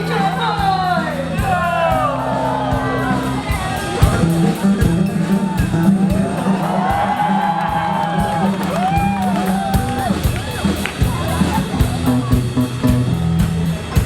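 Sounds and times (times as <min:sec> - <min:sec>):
crowd noise: 0:00.0 - 0:14.0
loud music with steady beat: 0:01.4 - 0:14.0.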